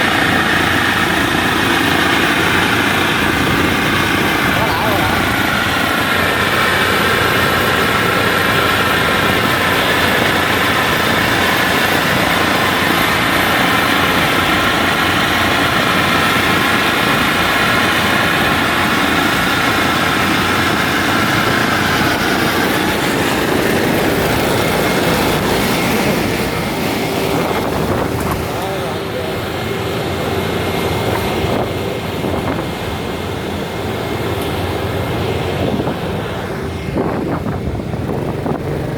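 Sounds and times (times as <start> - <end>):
diesel engine running: 0.0 - 38.9
steady machine whine: 0.0 - 38.9.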